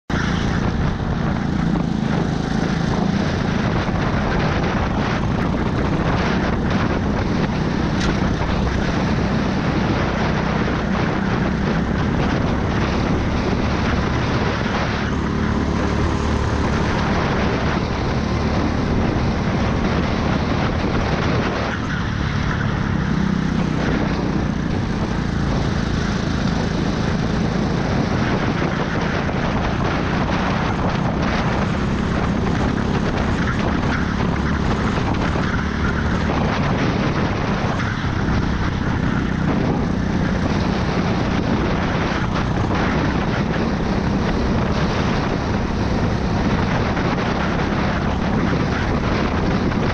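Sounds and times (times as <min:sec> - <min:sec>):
wind and track noise: 0:00.0 - 0:49.9
go-kart engine racing: 0:00.1 - 0:49.9.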